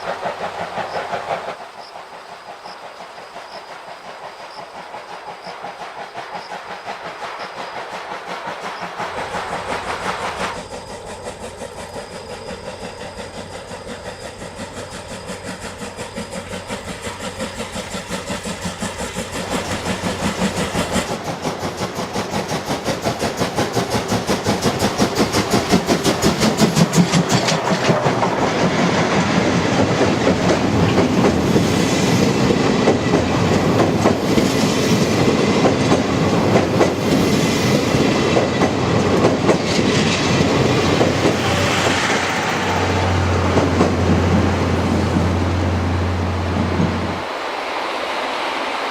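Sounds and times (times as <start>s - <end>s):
steam locomotive exhaust beats: 0.0s - 47.3s
wheels clattering on rails: 0.0s - 47.3s.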